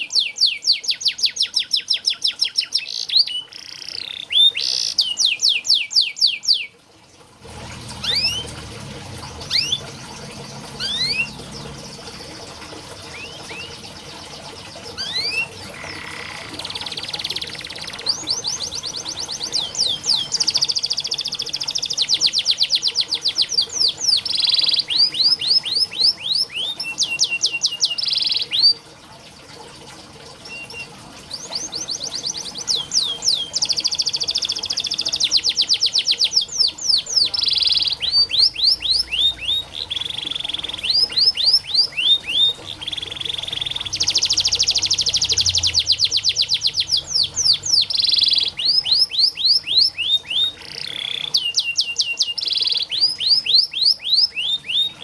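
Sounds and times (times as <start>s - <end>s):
canary trilling: 0.0s - 6.7s, 7.6s - 28.8s, 30.4s - 55.0s
canary rising chirps: 7.5s - 28.8s, 30.4s - 55.0s.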